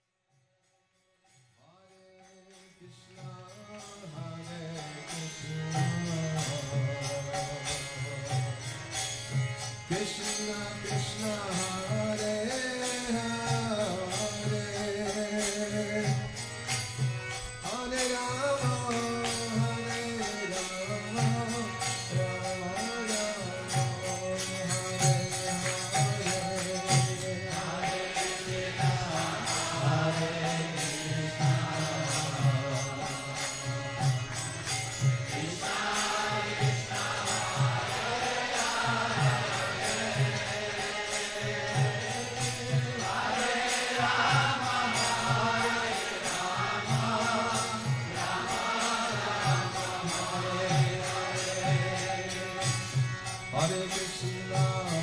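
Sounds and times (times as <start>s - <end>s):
jingling hand cymbals: 1.2s - 55.0s
chanted singing: 2.9s - 55.0s.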